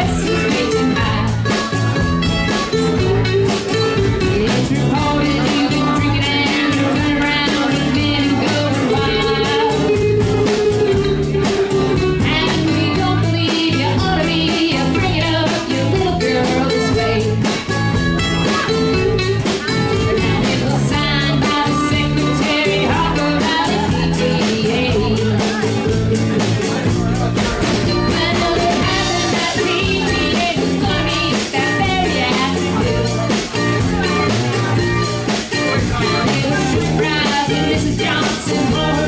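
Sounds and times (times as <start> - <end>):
drum kit beat: 0.0 - 39.0
mandolin: 0.0 - 39.0
strummed acoustic guitars: 0.0 - 39.0.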